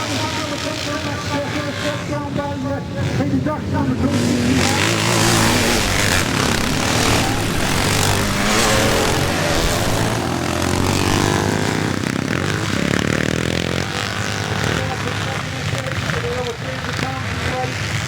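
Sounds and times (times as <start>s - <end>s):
motocross bikes racing: 0.0s - 18.0s.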